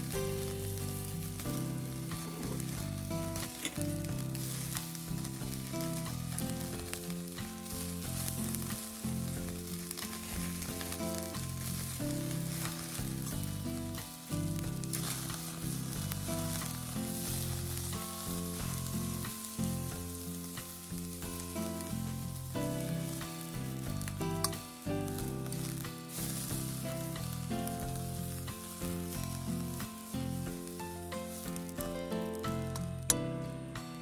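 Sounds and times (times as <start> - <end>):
background music: 0.0 - 34.0
food sizzling in a pan: 0.0 - 34.0.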